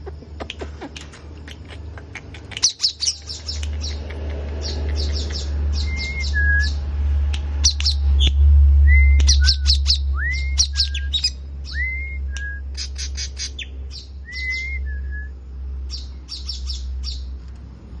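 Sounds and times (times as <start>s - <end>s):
songbirds chirping: 0.0s - 18.0s
steady low hum: 0.0s - 18.0s.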